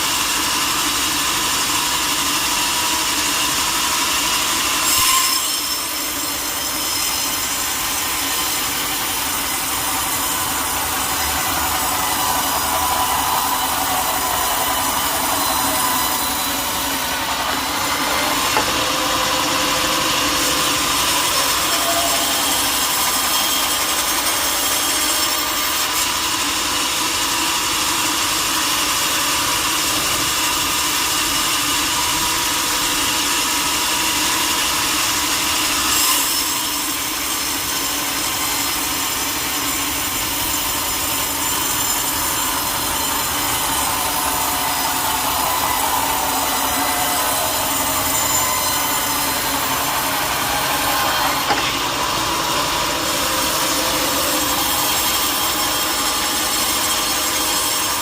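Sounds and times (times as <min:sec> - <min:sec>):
saw cutting log with whine: 0:00.0 - 0:58.0.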